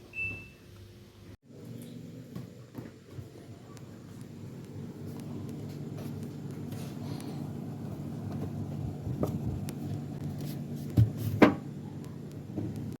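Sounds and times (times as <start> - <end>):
steady low hum: 0.9 - 13.0.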